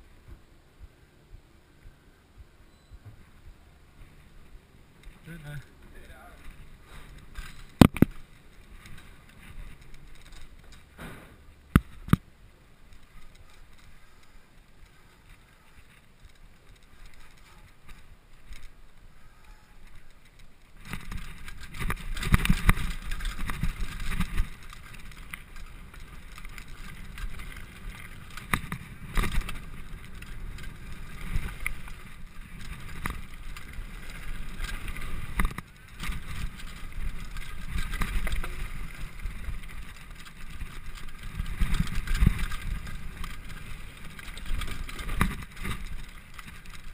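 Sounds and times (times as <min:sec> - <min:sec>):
bike tyres rumbling on gravel: 0:00.0 - 0:46.9.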